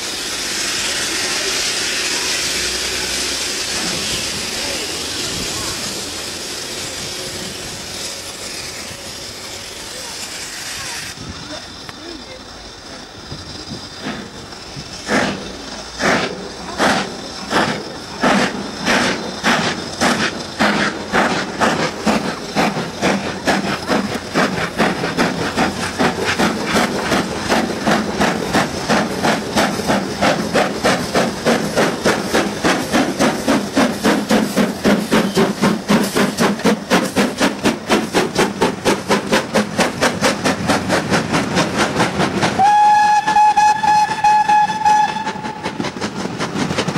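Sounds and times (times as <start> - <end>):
steam hiss: 0.0 - 46.9
steam locomotive exhaust beats: 0.0 - 46.9.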